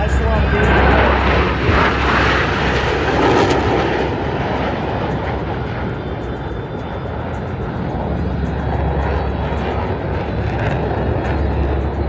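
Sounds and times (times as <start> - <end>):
jets roaring past: 0.0 - 12.0.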